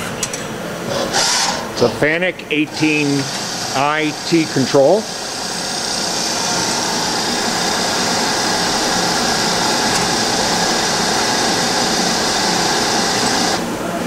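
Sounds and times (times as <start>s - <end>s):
lathe machine whir and hiss: 0.7s - 14.0s.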